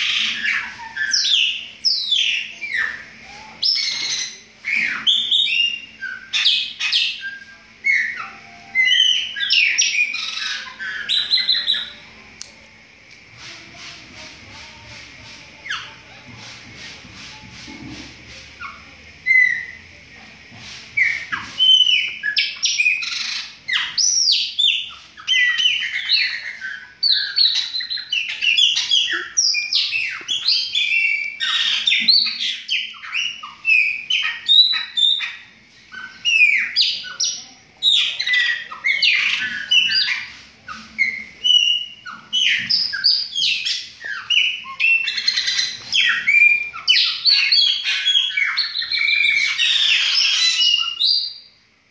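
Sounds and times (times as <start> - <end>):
blackbirds singing: 0.0 - 12.6, 13.4 - 51.6.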